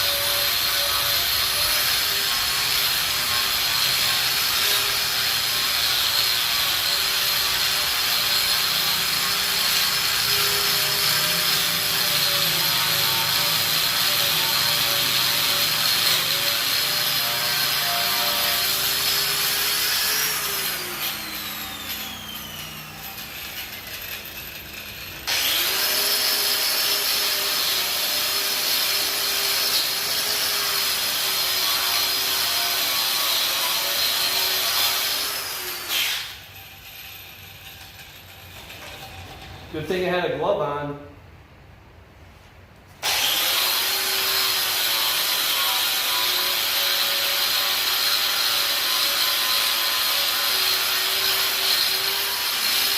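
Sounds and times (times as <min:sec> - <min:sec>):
angle grinder on steel: 0:00.0 - 0:40.6, 0:43.0 - 0:52.9.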